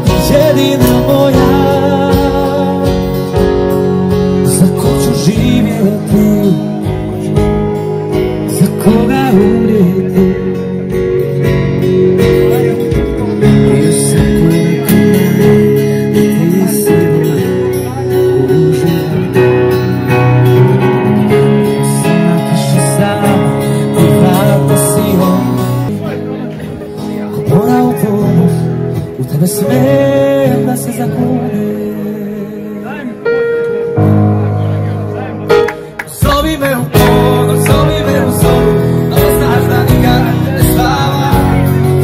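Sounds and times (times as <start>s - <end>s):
man singing: 0.0s - 33.6s, 36.0s - 42.0s
acoustic guitar: 0.0s - 42.0s
stage piano: 0.0s - 42.0s.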